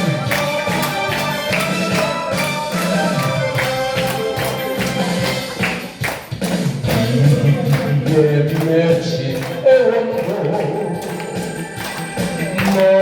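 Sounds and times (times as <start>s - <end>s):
instrumental pop music with beat: 0.0s - 13.0s.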